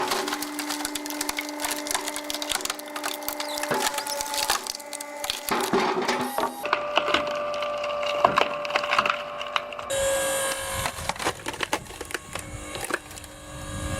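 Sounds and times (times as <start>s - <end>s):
wood cracking and splintering: 0.0s - 13.3s
machine hum: 0.0s - 13.9s.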